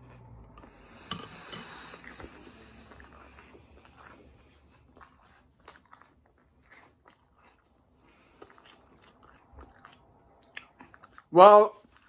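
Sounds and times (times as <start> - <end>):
person chewing crunchy cereal: 0.8 - 12.0.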